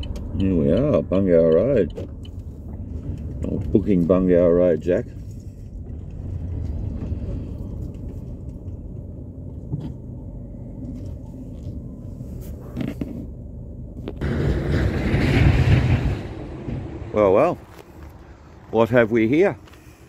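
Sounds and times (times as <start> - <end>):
motor vehicle rumbling on road: 0.0 - 20.0.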